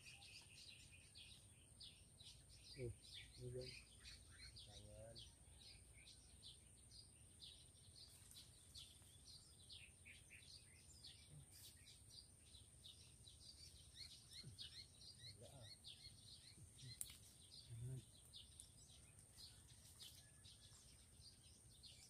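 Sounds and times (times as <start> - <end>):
small birds twittering: 0.0 - 22.0.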